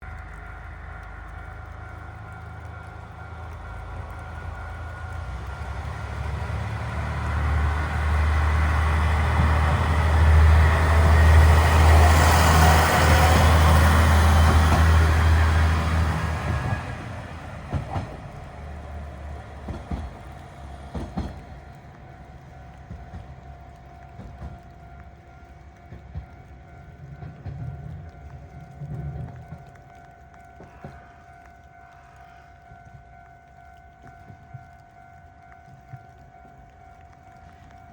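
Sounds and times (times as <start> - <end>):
diesel railcar engine hum: 0.0 - 37.9
train wheel noise: 0.0 - 37.9.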